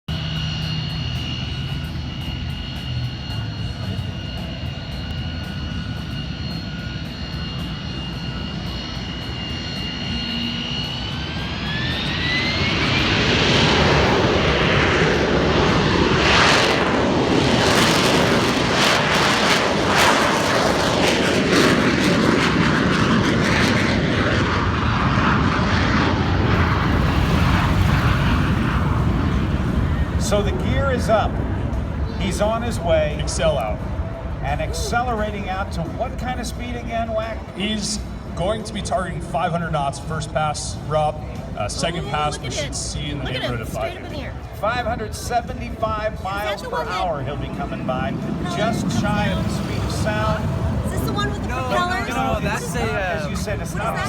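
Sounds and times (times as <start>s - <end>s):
jet engine whining and roaring: 0.1s - 54.0s.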